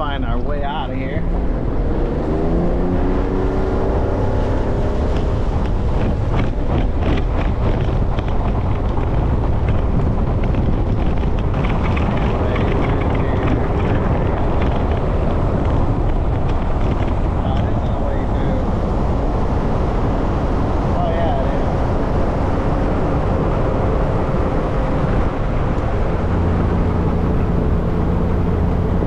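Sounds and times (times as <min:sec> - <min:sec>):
wind buffeting microphone: 0:00.0 - 0:29.0
boat motor running: 0:02.5 - 0:29.0.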